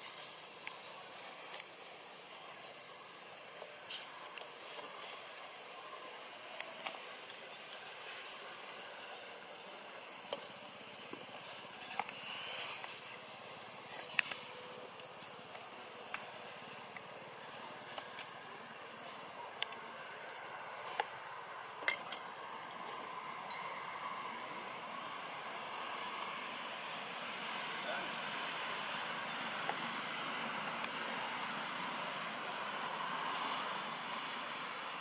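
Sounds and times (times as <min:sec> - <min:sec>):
steady high hiss: 0:00.0 - 0:35.0.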